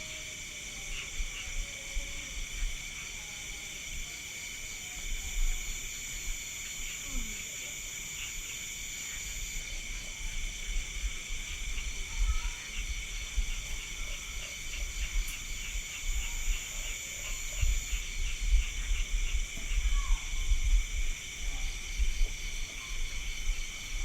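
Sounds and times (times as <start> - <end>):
crickets trilling: 0.0 - 24.0
pulsing insect trill: 0.0 - 24.0.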